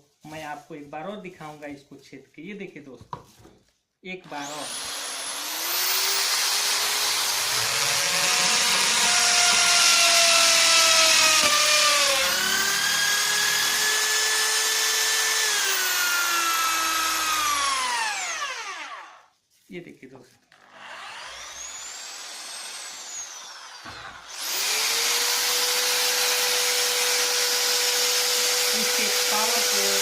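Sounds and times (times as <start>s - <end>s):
electric drill whine: 4.3s - 19.3s, 20.6s - 30.0s.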